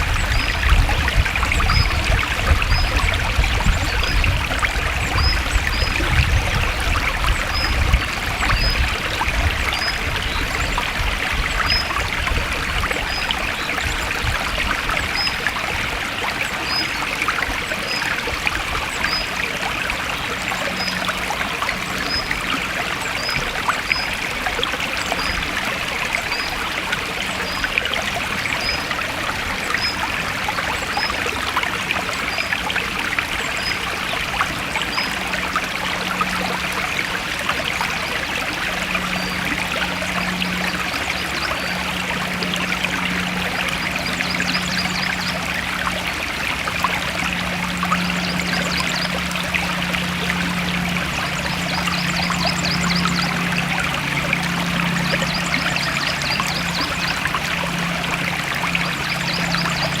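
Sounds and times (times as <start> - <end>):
stream flowing and trickling: 0.0 - 60.0.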